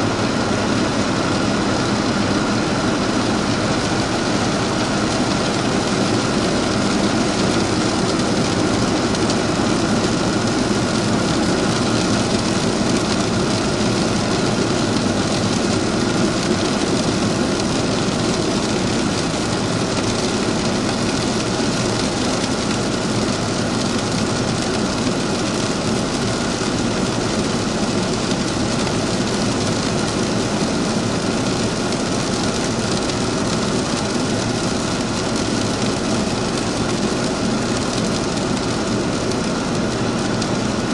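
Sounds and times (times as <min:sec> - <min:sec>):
turboprop engine drone: 0:00.0 - 0:40.9.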